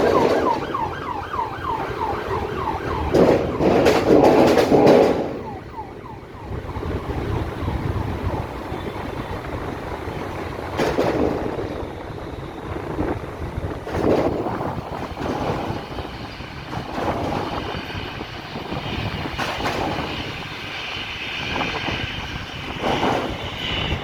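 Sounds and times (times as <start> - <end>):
emergency siren yelp: 0.0 - 24.0
steady traffic rumble: 0.0 - 24.0
vehicles passing: 0.0 - 24.0.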